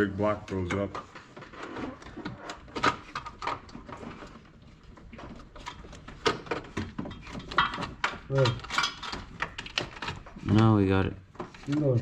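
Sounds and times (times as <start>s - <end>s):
parts clicking and knocking: 0.5s - 12.0s.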